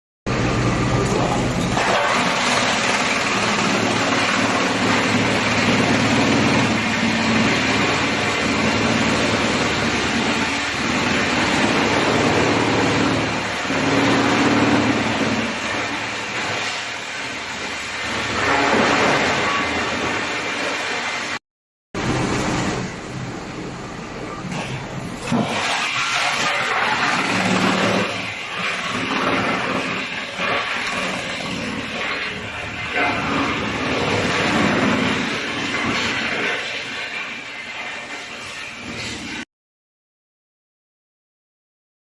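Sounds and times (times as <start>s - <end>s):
wood chipper running: 0.3s - 21.4s, 22.0s - 39.4s.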